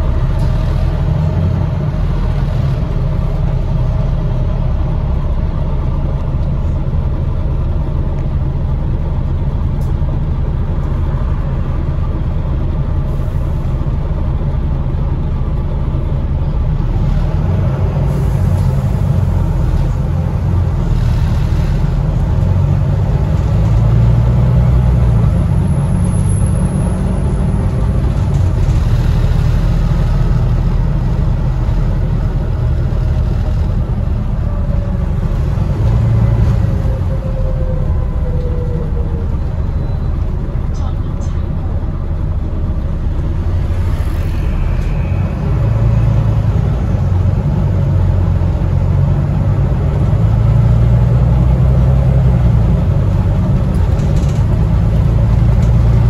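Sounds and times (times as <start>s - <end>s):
diesel bus engine rumbling: 0.0s - 56.0s
road noise: 0.0s - 56.0s.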